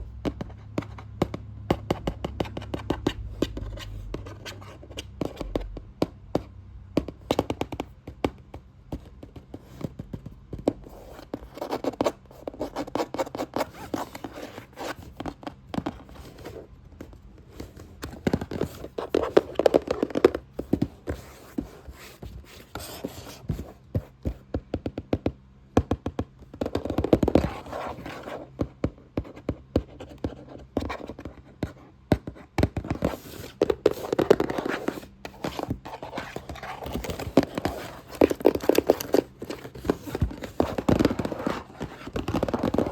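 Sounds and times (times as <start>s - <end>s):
rapid tapping on a box: 0.0s - 42.9s
scratching on a box: 0.0s - 42.9s.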